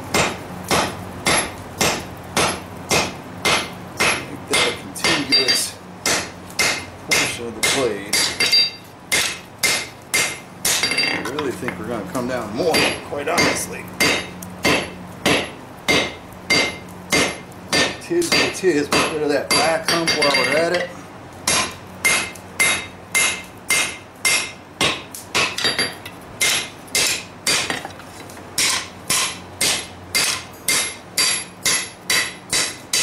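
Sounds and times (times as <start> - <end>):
hammer striking metal on anvil: 0.1 - 11.5, 12.7 - 20.9, 21.5 - 27.9, 28.6 - 33.0.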